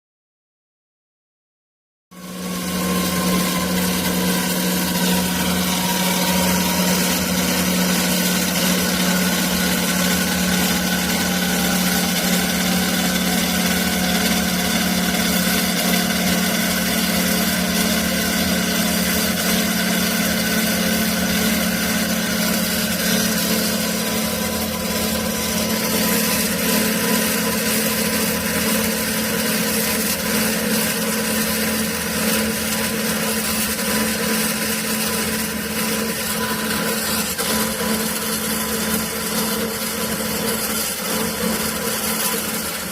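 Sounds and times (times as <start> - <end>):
band saw humming: 2.2 - 42.9.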